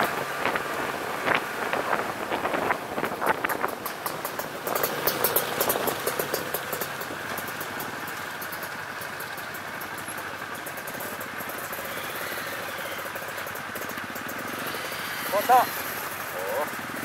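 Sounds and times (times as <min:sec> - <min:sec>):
motorcycle engine idling: 0:02.0 - 0:17.0.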